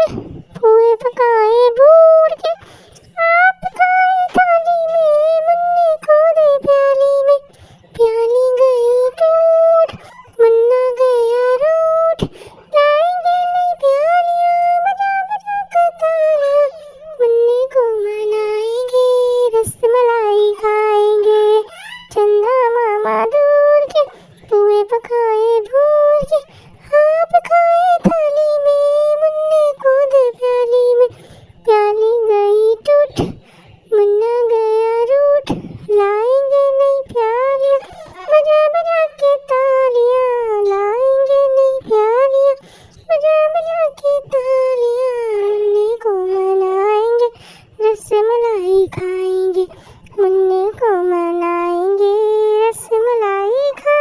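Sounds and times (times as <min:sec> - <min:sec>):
high voice singing: 0:00.0 - 0:54.0.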